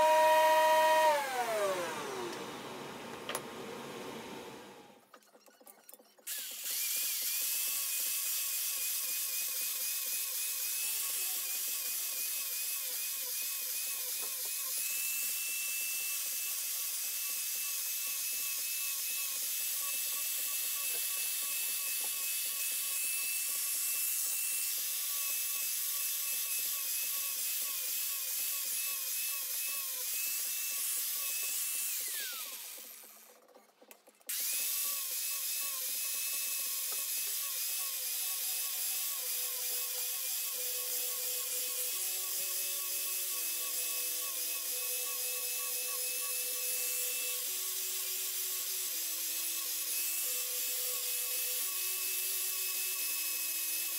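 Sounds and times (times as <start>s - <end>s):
angle grinder cutting wood: 0.0s - 5.0s, 6.3s - 33.4s, 34.3s - 53.9s.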